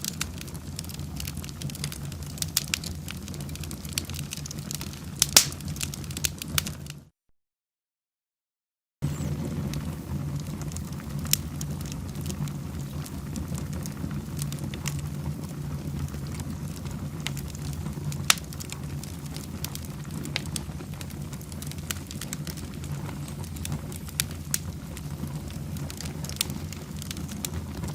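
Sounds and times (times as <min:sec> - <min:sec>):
wood fire crackling and popping: 0:00.0 - 0:07.1, 0:09.0 - 0:27.9.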